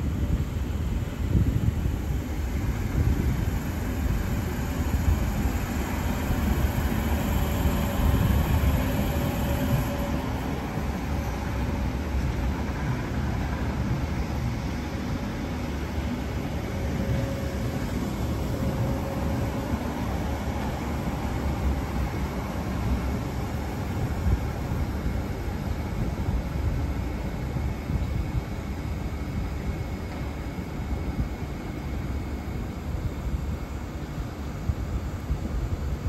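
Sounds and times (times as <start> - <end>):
electric train rolling past: 0.0 - 36.0.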